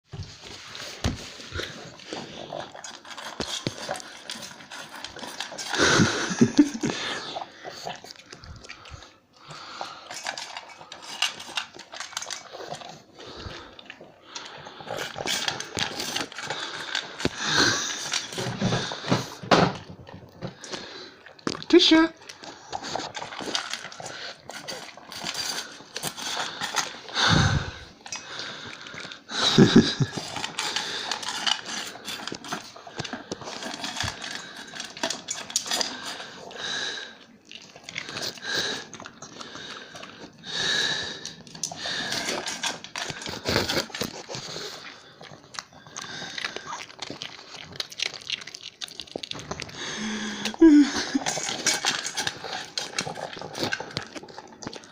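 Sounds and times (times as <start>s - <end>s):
dog chewing and crunching food: 0.0s - 54.9s.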